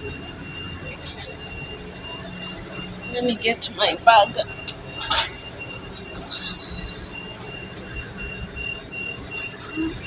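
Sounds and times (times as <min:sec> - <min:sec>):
high pulsing wheel squeal: 0:00.0 - 0:10.0.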